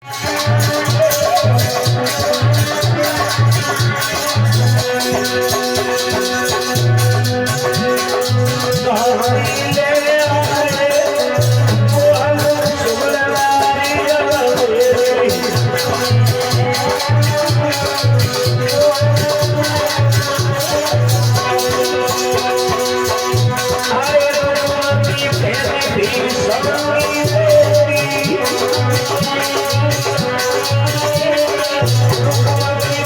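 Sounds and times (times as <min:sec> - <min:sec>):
shaker percussion: 0:00.0 - 0:33.0.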